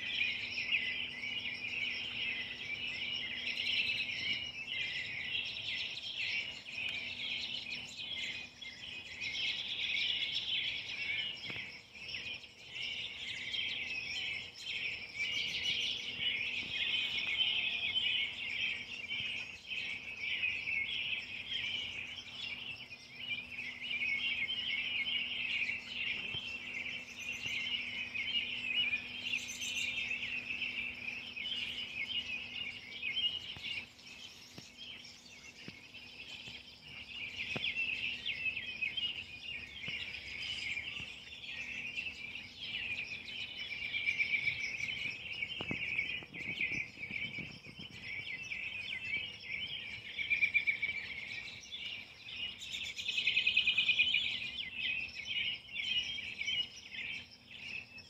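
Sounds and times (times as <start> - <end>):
birds chirping in chorus: 0.0 - 58.0.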